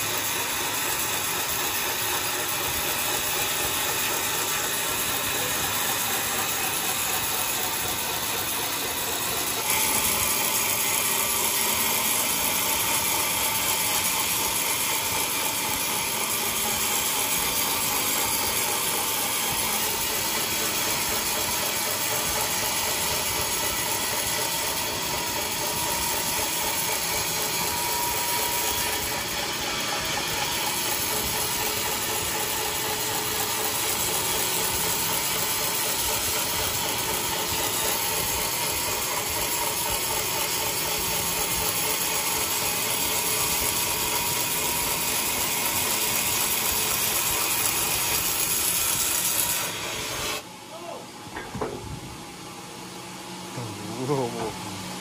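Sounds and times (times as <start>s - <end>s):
sawmill machinery sawing log: 0.0s - 50.5s, 53.0s - 55.0s.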